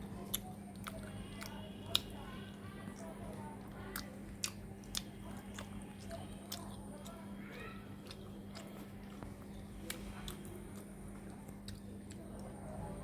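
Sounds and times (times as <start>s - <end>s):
person chewing food: 0.0s - 12.6s.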